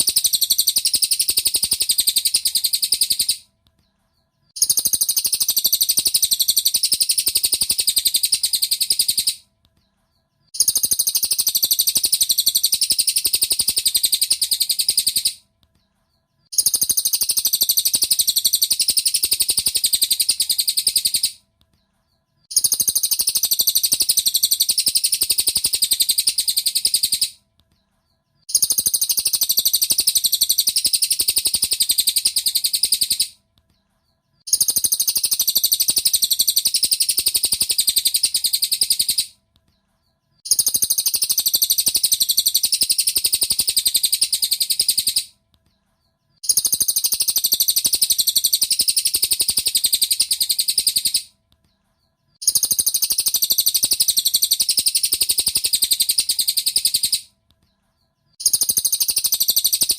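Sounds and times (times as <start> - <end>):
high chattering bird song: 0.0 - 59.9.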